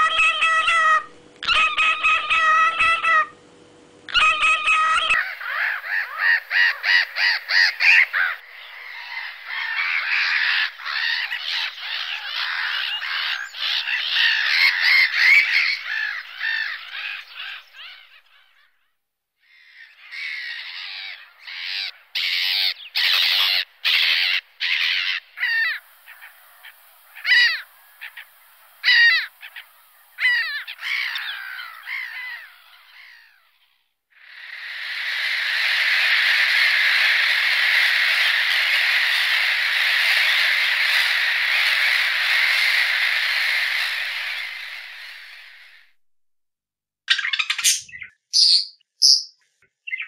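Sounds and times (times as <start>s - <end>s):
gulls calling: 0.0s - 18.9s, 19.5s - 46.0s.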